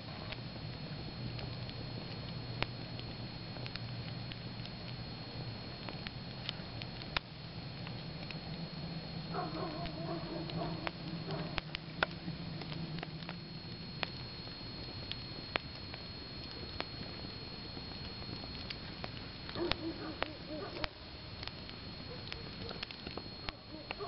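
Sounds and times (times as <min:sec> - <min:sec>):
fire hissing: 0:00.0 - 0:24.0
wood fire crackling and popping: 0:00.0 - 0:24.0.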